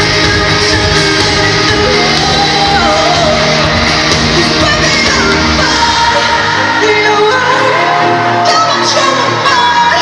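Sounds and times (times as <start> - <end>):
amplified live pop band: 0.0 - 10.0
lead vocal singing: 0.0 - 10.0.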